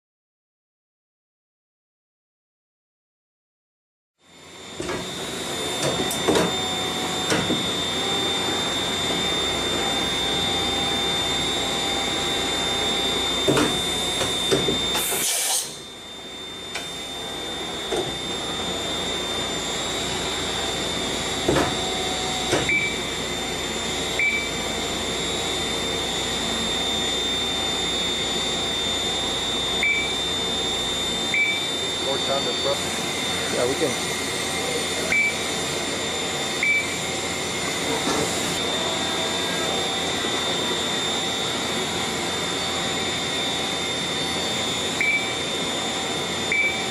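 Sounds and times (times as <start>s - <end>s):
machine whine: 4.2s - 46.9s.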